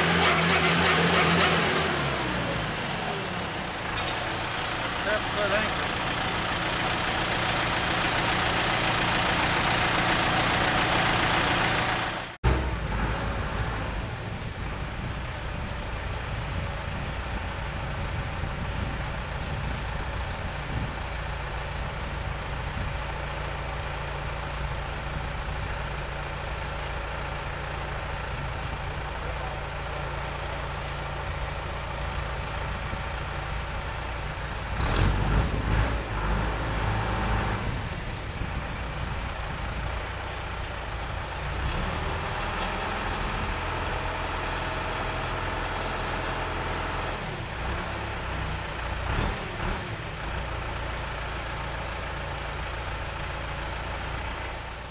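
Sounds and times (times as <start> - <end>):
engine drone: 0.0 - 54.9
loud machinery noise: 0.0 - 54.9.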